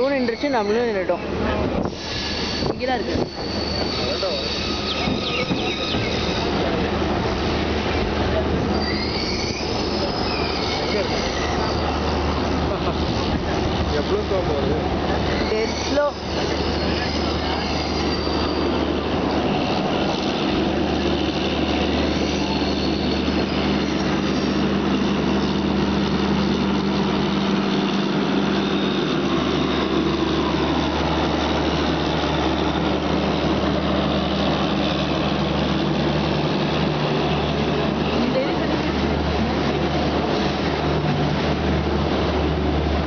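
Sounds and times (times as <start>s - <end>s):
train running slowly: 0.0s - 43.0s.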